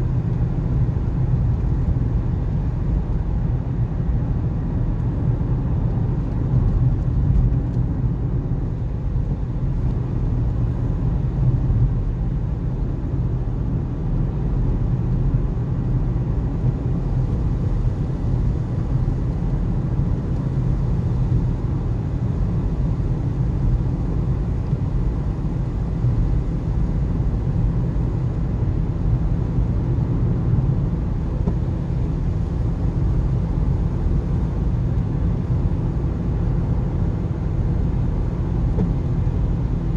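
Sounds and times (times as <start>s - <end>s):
car road rumble from inside: 0.0s - 39.9s.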